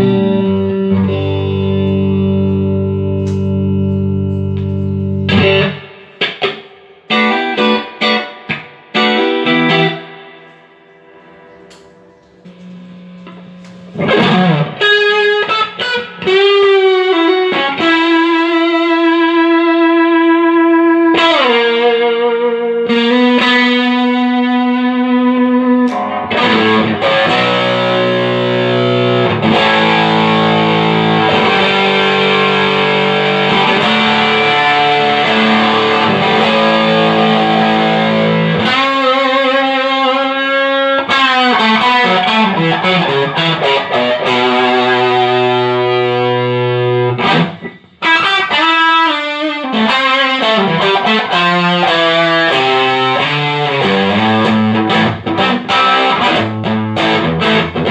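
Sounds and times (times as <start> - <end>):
electric guitar playing: 0.0 - 57.9.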